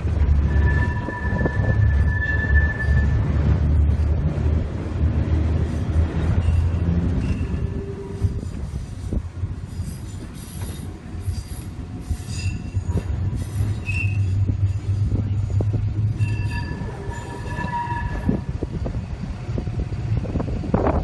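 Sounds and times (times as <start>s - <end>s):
tram wheels squealing: 0.0s - 4.4s, 5.2s - 20.4s
tram rumbling on rails: 0.0s - 21.0s.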